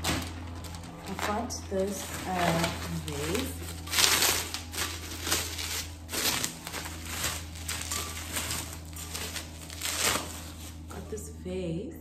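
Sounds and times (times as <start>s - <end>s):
plastic wrapping crinkling: 0.0s - 11.2s.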